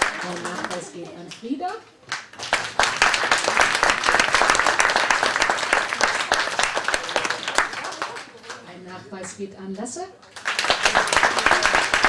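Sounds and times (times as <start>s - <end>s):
audience applauding: 0.0s - 8.8s, 10.3s - 12.0s.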